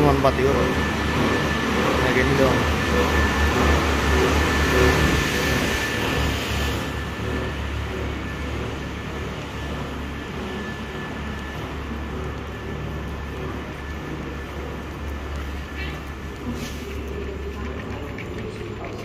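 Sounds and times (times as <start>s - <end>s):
ventilation rumble and hum: 0.0s - 19.0s.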